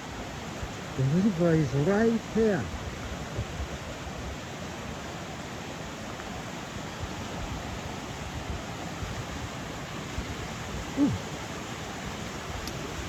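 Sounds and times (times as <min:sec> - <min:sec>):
river rushing heavily: 0:00.0 - 0:13.0.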